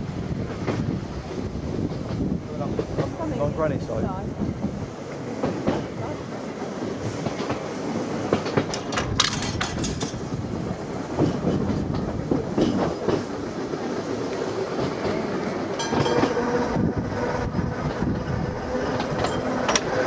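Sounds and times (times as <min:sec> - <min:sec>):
tram wheels rumbling on rail: 0:00.0 - 0:20.0.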